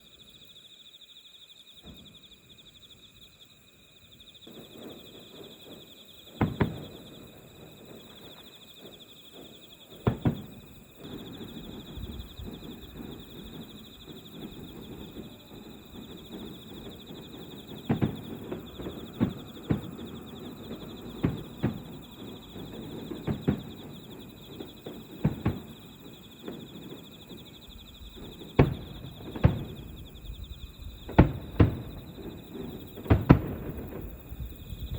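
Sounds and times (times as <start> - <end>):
crickets chirping: 0.0 - 34.9
distant fireworks bangs: 1.8 - 2.3, 4.4 - 34.9.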